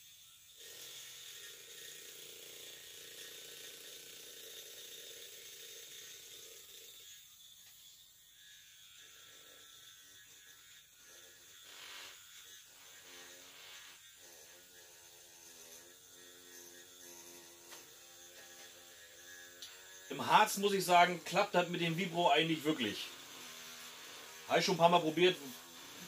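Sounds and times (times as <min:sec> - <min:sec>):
faint buzzing of vibrating egg: 0:00.0 - 0:26.0.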